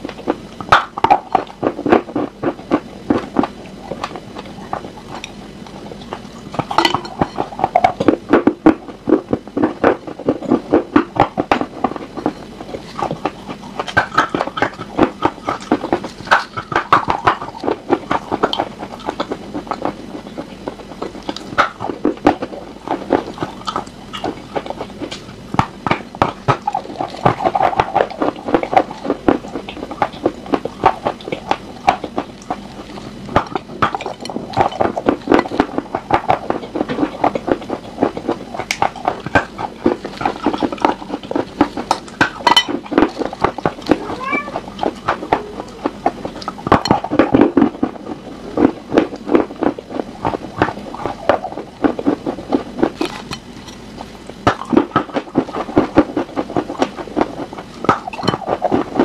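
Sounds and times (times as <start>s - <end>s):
chewing crunchy chalk: 0.0s - 59.0s
wet mouth sounds: 0.0s - 59.0s.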